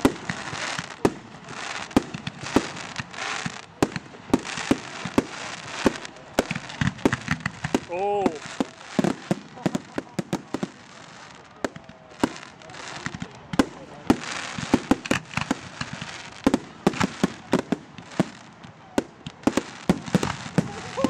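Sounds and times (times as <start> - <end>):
firework shells bursting: 0.0 - 11.7, 12.3 - 21.0
firework crackling hiss: 0.0 - 21.0.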